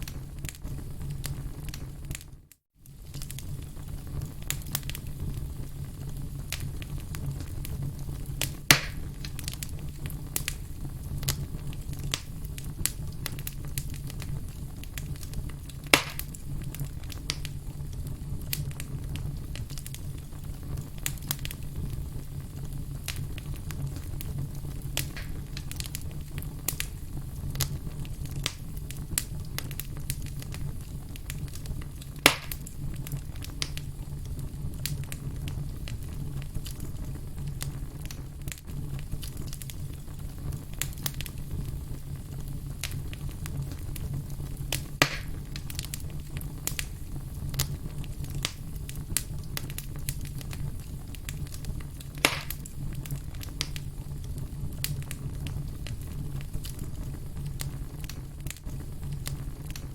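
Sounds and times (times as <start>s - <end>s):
campfire crackling: 0.0s - 59.9s
loud sharp fire pops: 2.9s - 59.9s.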